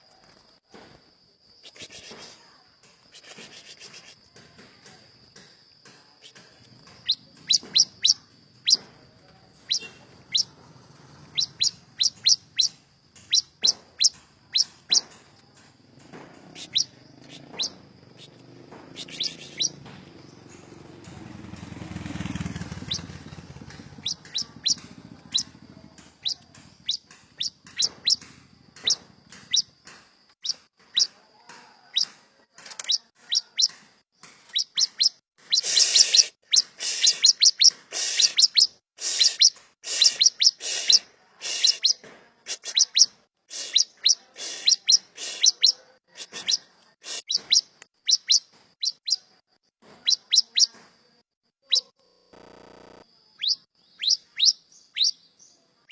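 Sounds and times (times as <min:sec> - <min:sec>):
songbirds chirping: 0:00.0 - 0:52.0, 0:53.2 - 0:55.9.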